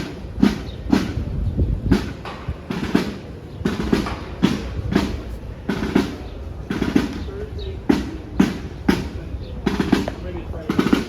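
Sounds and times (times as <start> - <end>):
marching drum beating: 0.0 - 11.0.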